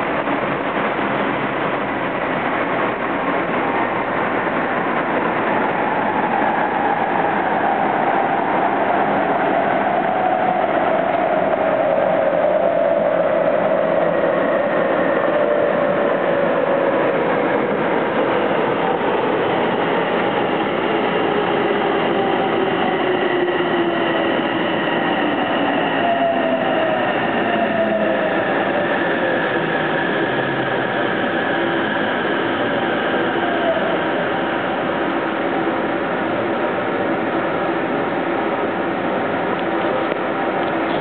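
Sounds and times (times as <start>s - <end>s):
train wheel rolling noise: 0.0s - 37.2s.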